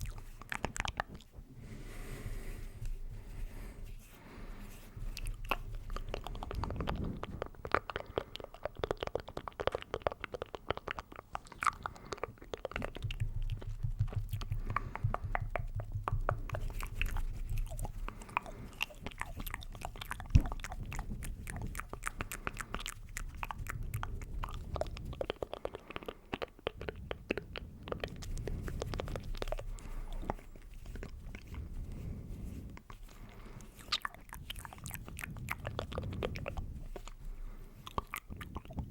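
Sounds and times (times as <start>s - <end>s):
mouth clicks and smacks: 0.0s - 1.5s, 2.1s - 38.9s.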